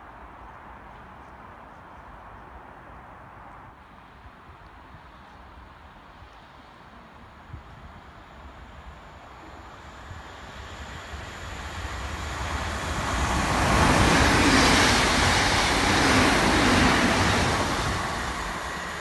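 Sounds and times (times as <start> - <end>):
train passing at speed: 3.7 - 19.0.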